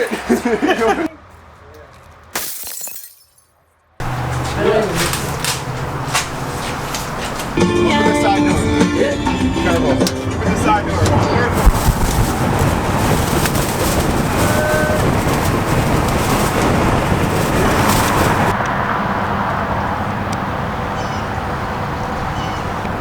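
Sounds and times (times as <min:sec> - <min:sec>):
road and wind noise of moving van: 0:00.0 - 0:03.0, 0:03.6 - 0:23.0.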